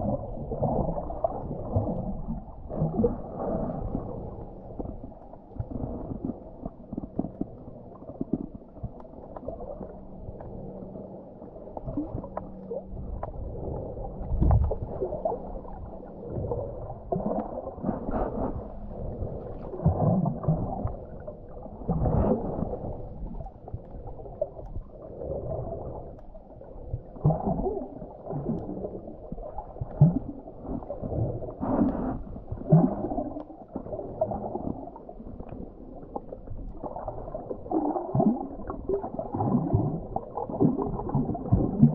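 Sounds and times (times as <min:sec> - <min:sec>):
muffled underwater gurgling: 0:00.0 - 0:41.9.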